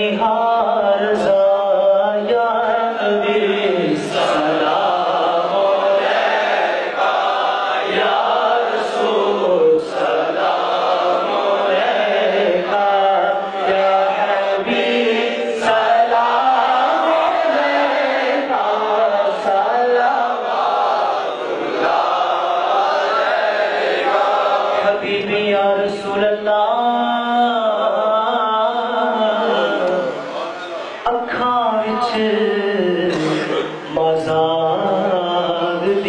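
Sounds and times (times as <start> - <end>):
men chanting through microphone: 0.0 - 36.0.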